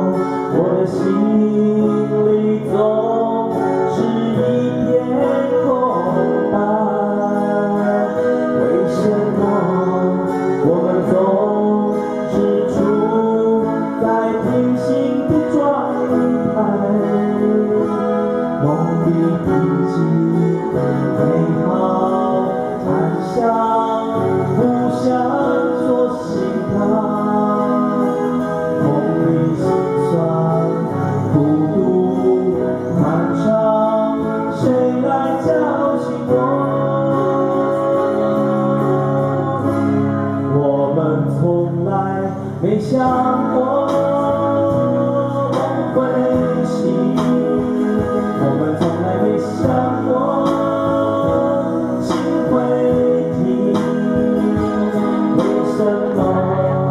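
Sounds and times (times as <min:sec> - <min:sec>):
guitars strummed and picked: 0:00.0 - 0:56.9
men singing together: 0:00.0 - 0:56.9.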